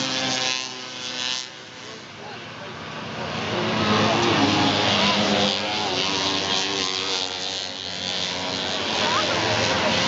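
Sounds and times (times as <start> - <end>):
snowmobile engines at high revs: 0.0 - 10.0.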